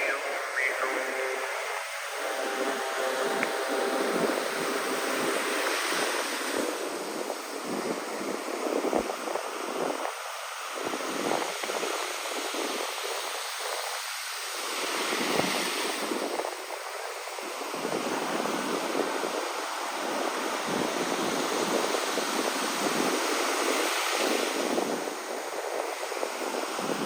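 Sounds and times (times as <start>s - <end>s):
sea waves washing on shore: 0.0s - 27.0s.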